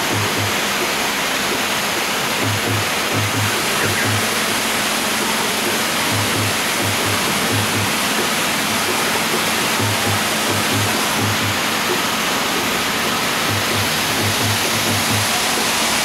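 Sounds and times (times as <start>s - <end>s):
background music with drum beat: 0.0s - 16.0s
rushing water: 0.0s - 16.0s.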